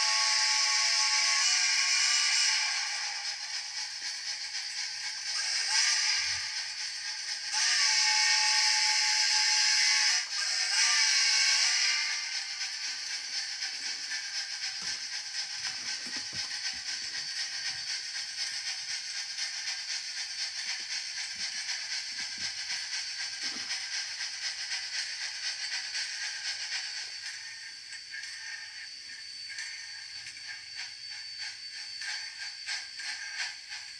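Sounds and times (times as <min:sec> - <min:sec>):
fast-pulsing steam hiss: 0:00.0 - 0:33.9
model locomotive drive whir: 0:00.0 - 0:33.9.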